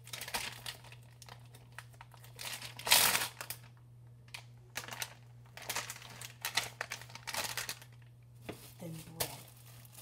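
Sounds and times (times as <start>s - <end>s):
plastic package crinkling: 0.0s - 10.0s.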